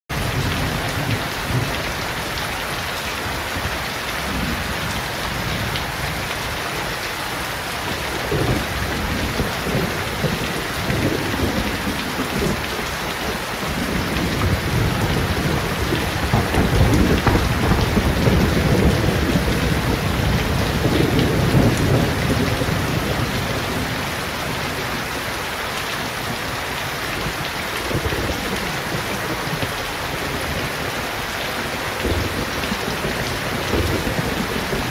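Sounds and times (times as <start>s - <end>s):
rain on leaves and pavement: 0.1s - 34.9s.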